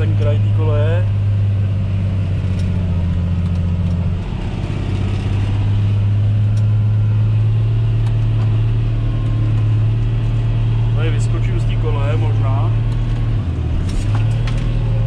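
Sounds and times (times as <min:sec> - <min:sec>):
diesel tractor engine droning: 0:00.0 - 0:15.0.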